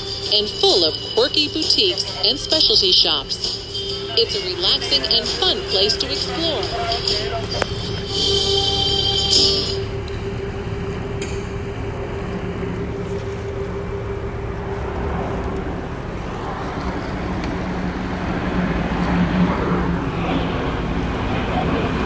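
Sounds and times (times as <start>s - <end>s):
boat engine humming: 0.0s - 22.0s
water rushing: 0.0s - 22.0s
wind: 0.0s - 22.0s.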